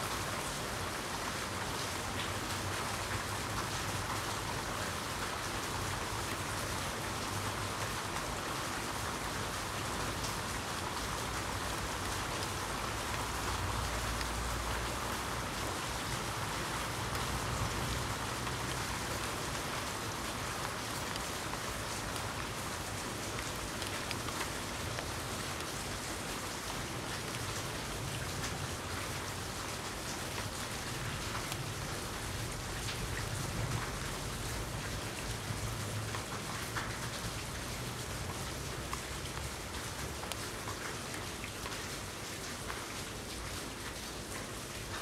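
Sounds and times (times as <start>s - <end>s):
rain hiss: 0.0s - 45.0s
raindrop ticks: 1.6s - 45.0s.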